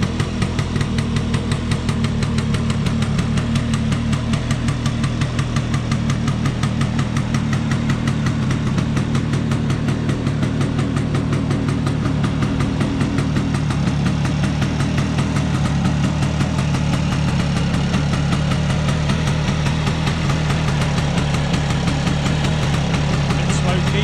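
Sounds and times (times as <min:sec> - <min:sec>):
two-stroke engine idling: 0:00.0 - 0:24.0.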